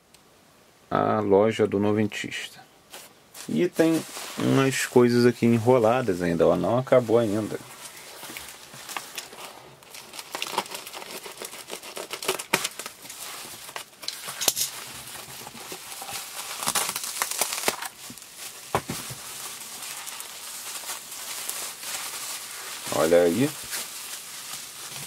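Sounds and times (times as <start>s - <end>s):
bubble wrap and paper crinkling: 2.9s - 25.0s.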